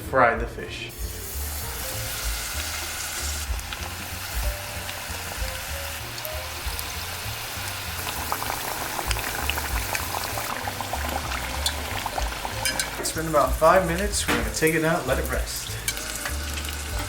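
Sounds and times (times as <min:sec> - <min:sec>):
background music with low beat: 0:00.0 - 0:17.0
fish frying in oil: 0:01.0 - 0:17.0.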